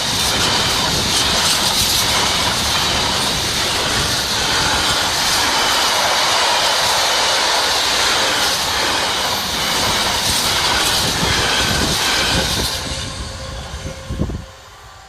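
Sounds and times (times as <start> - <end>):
freight train passing: 0.0 - 15.0
wind on microphone: 0.0 - 15.0.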